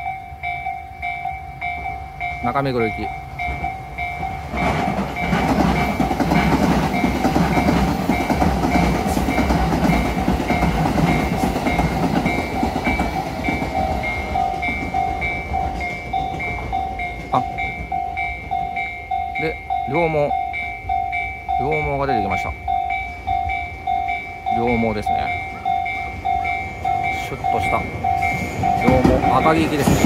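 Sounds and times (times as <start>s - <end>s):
level crossing bell dinging: 0.0s - 6.1s, 7.0s - 30.0s
train wheels rumbling and clattering: 0.0s - 30.0s.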